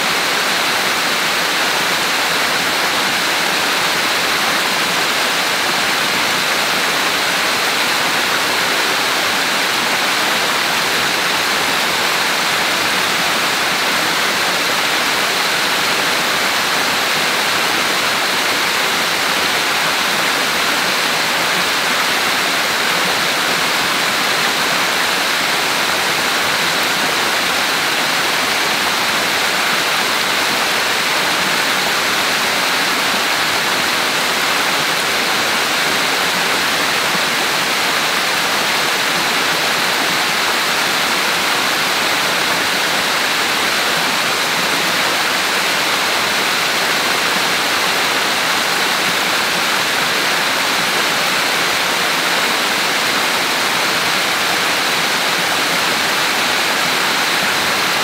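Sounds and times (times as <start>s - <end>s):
waterfall splashing over rocks: 0.0s - 58.0s.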